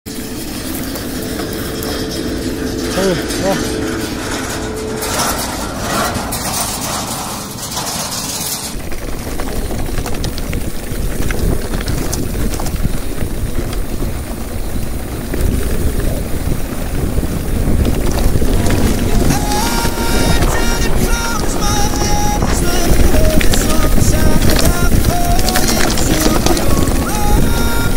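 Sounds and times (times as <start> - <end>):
bike rattling: 0.0 - 27.9
diesel engine running: 0.0 - 27.9
wind and tyres rumbling: 0.0 - 27.9.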